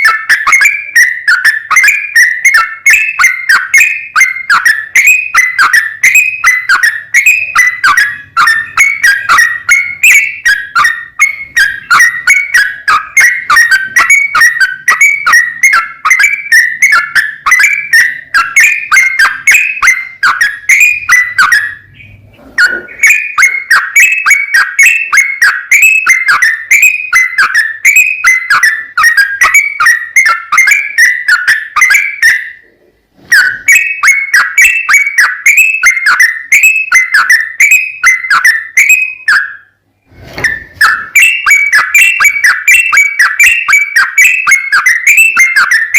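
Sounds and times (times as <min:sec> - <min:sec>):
bulbul singing chattering notes: 0:00.0 - 0:32.7, 0:33.3 - 0:39.8, 0:40.5 - 0:45.9.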